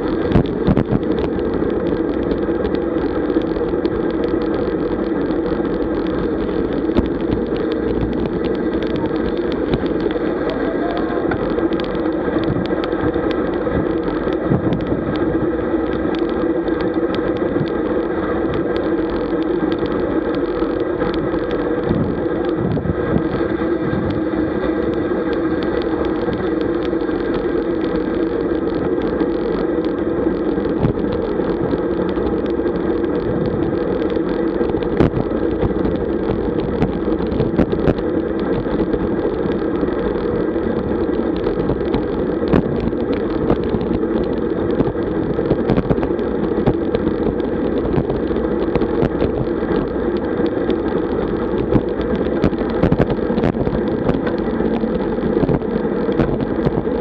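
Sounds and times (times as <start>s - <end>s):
bike tyre noise: 0.0s - 57.0s
wind rush: 0.0s - 57.0s.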